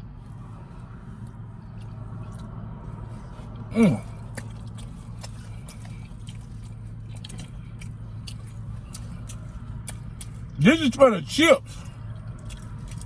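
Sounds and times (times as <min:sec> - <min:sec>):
car engine idling: 0:00.0 - 0:13.0
person chewing and eating: 0:01.2 - 0:10.6, 0:11.7 - 0:13.0.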